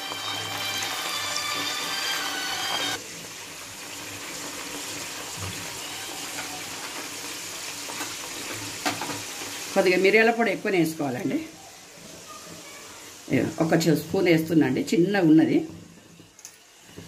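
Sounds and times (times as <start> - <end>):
curry sizzling in hot oil: 0.0 - 17.0.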